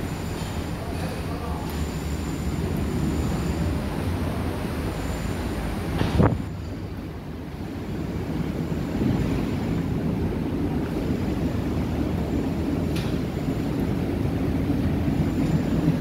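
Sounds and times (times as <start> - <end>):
ferry engines rumbling: 0.0 - 16.0.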